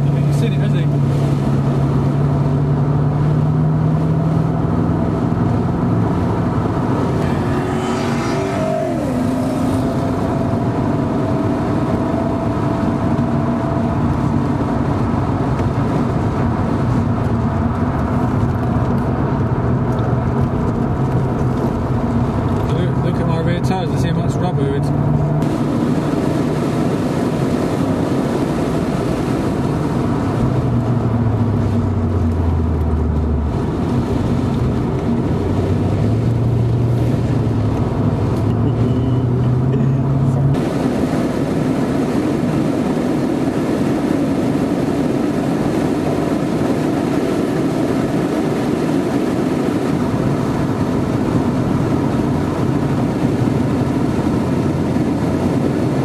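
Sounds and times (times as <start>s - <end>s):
car engine: 0.0s - 56.0s
wind and road noise: 0.0s - 56.0s.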